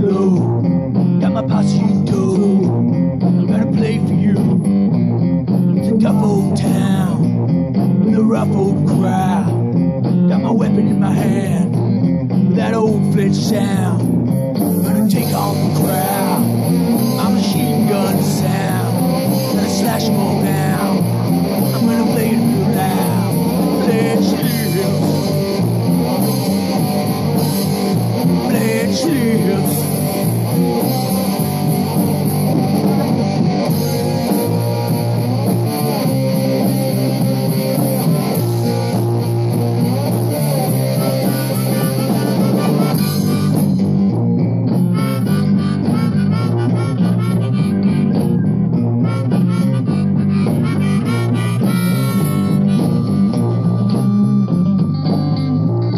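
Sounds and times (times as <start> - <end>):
bass guitar: 0.0 - 55.9
drum kit: 0.0 - 55.9
electric guitars: 0.0 - 55.9.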